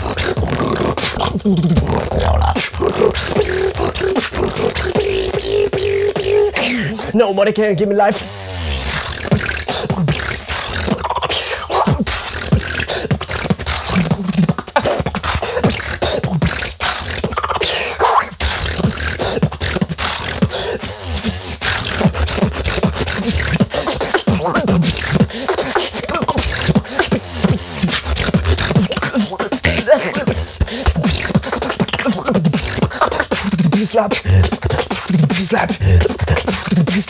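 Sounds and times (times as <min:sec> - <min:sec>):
person beatboxing: 0:00.0 - 0:37.0.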